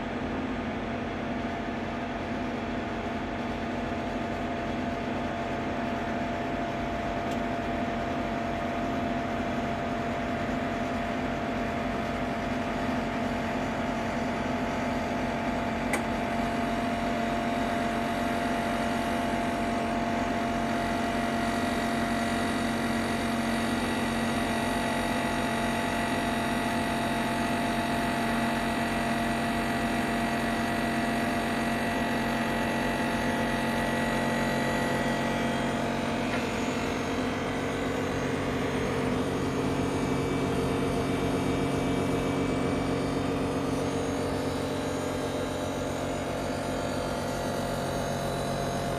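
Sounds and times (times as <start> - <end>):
multicooker motor and fan hum: 0.0 - 48.9.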